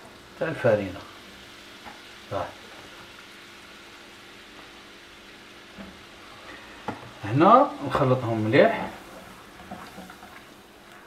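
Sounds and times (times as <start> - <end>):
butter sizzling in saucepan: 0.0 - 11.0.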